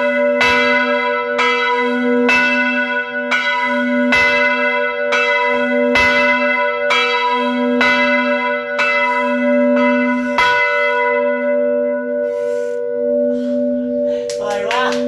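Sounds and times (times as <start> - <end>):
church bell ringing: 0.0 - 15.0.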